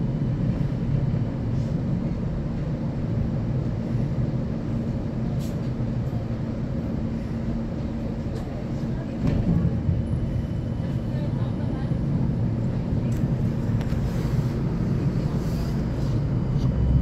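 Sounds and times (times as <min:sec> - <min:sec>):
rail vehicle rumble: 0:00.0 - 0:17.0.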